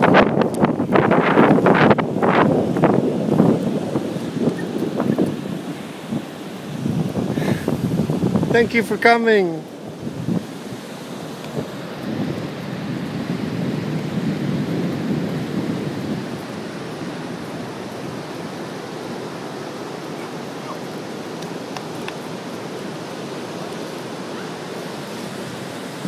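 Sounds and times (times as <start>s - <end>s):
ocean surf rushing: 0.0s - 26.0s
wind buffeting microphone: 0.0s - 26.0s.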